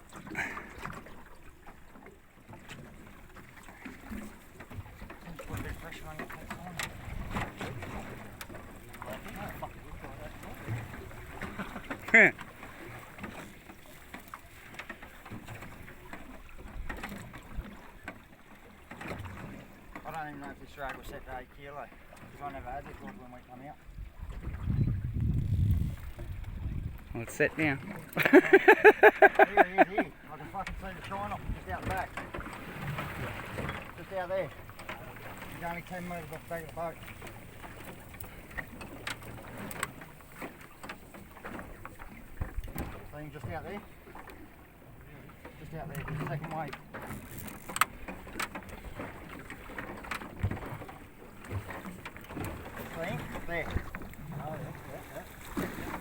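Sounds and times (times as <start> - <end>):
boat motor humming: 0.0 - 20.8, 24.4 - 56.0
water and wind rumble: 0.0 - 56.0.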